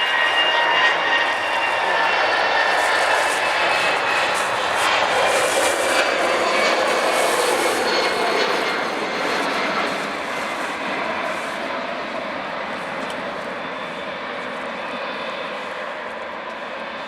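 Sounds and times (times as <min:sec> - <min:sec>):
jet engines passing: 0:00.0 - 0:17.0.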